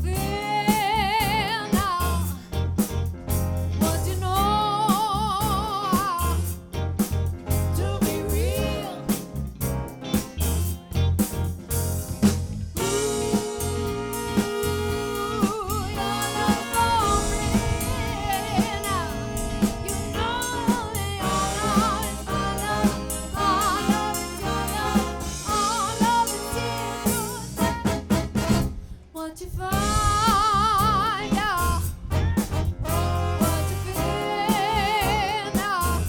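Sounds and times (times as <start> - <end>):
drum kit beat: 0.0 - 28.8, 29.8 - 36.0
soul band playing: 0.0 - 28.9, 29.7 - 36.0.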